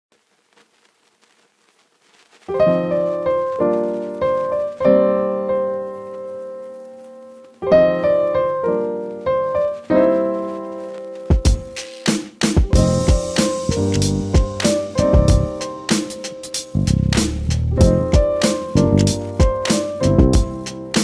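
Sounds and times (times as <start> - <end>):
piano chords: 2.5 - 21.0.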